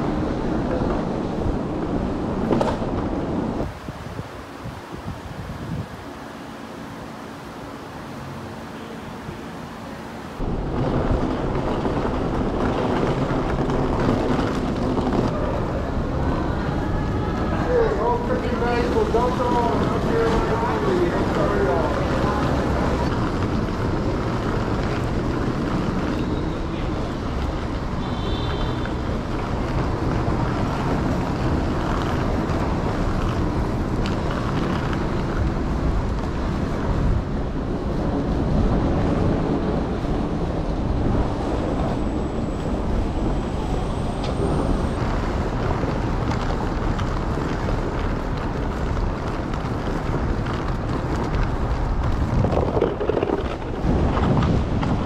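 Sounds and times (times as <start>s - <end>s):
wind buffeting microphone: 0.0s - 6.2s, 10.3s - 55.0s
traffic rumble: 0.0s - 55.0s.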